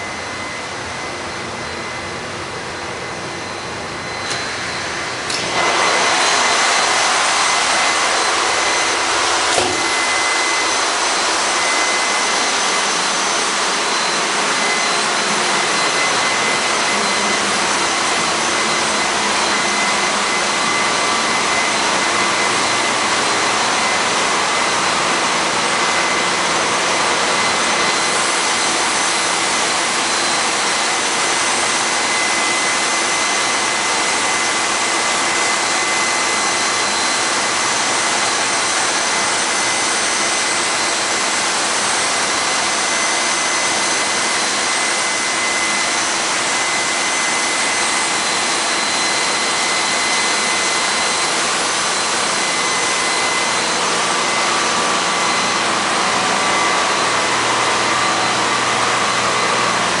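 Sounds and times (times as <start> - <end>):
engine room machinery roar: 0.0 - 60.0
high-pitched machinery whine: 0.0 - 60.0.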